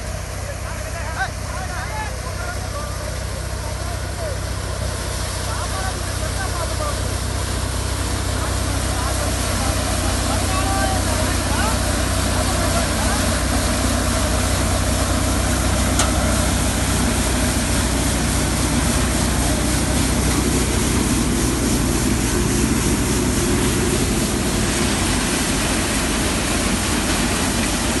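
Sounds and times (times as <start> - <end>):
tractor engine drone: 0.0 - 28.0
thresher drum and fans rushing: 0.8 - 28.0.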